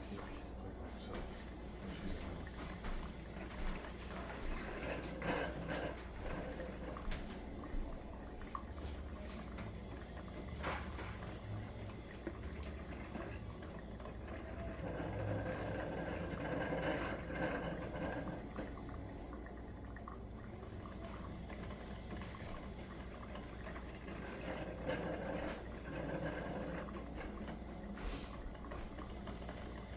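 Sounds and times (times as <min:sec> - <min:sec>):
coffee maker bubbling and dripping: 0:00.0 - 0:29.9.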